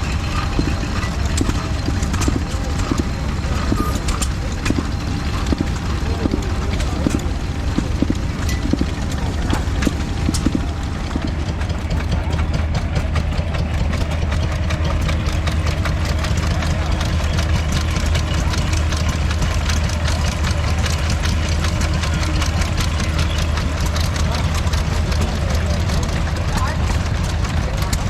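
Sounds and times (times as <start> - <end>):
old engine running with clatter: 0.0 - 28.0.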